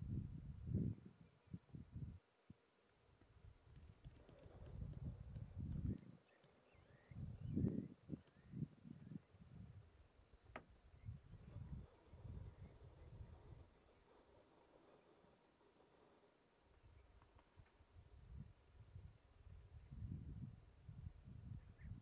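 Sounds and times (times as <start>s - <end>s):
insects trilling: 0.2s - 22.0s.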